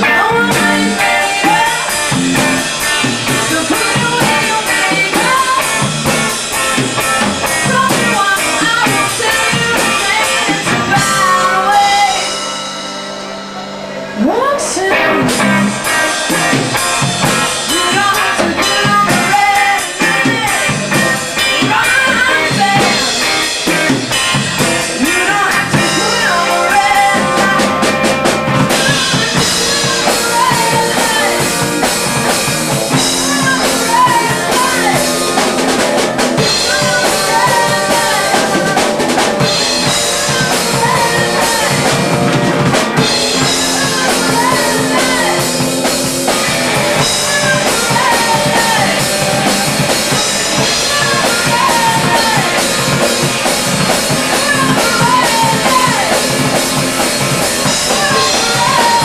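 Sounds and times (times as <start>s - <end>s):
live band playing loud music: 0.0s - 59.0s.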